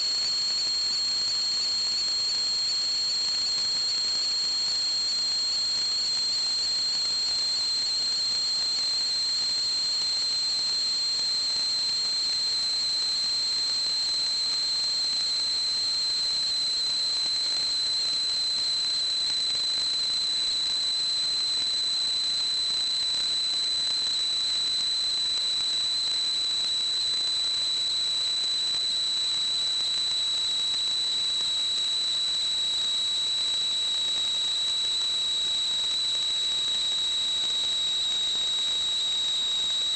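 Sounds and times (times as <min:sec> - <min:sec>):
high-pitched whistle: 0:00.0 - 0:39.9.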